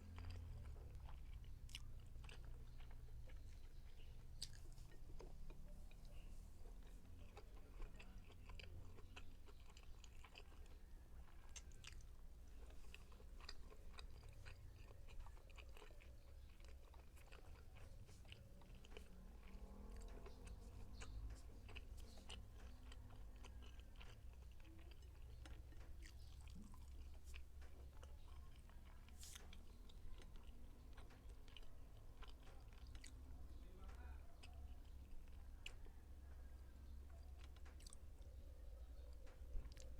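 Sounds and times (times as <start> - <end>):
close-up chewing: 0.0 - 39.9.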